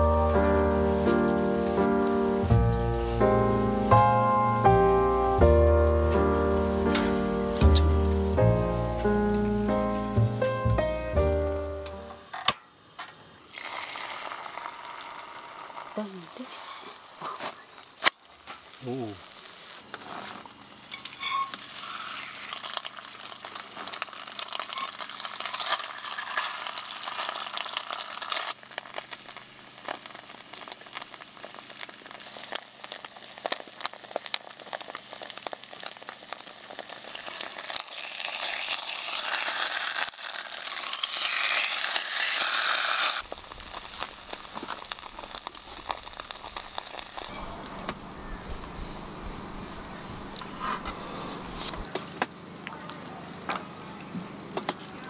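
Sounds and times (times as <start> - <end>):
food sizzling in a pan: 0.0 - 51.9.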